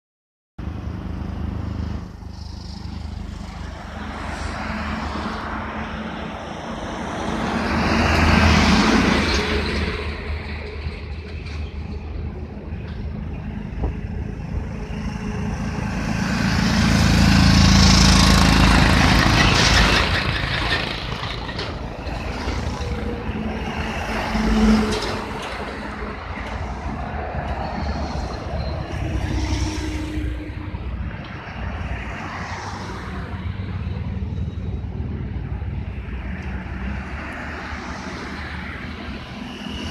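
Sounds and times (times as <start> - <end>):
road traffic rumble: 0.6 - 39.9
vehicles passing by: 0.6 - 39.9.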